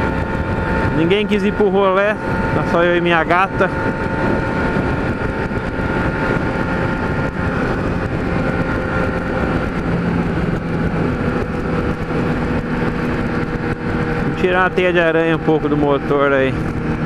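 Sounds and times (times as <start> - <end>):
motorcycle engine cruising: 0.0 - 17.0
wind rushing on microphone: 0.0 - 17.0.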